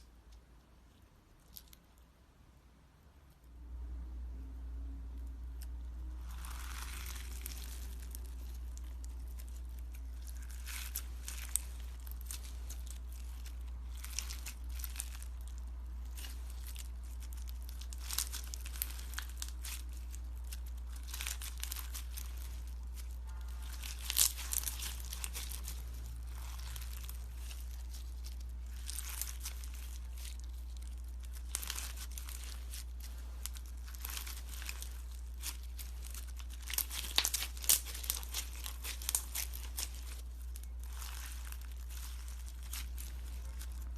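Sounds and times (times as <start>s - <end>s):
steady low hum: 0.0s - 43.9s
slime squishing and crackling: 5.0s - 43.9s.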